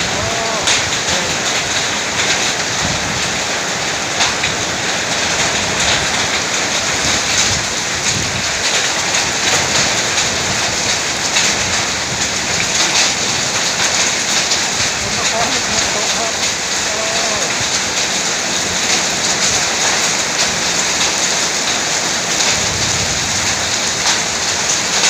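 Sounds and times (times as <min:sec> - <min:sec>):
heavy rain with hail: 0:00.0 - 0:25.0.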